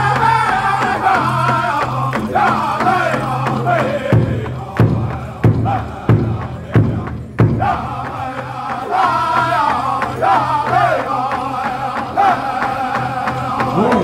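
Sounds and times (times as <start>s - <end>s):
big drum beating: 0.0s - 14.0s
high-pitched group singing: 0.0s - 14.0s.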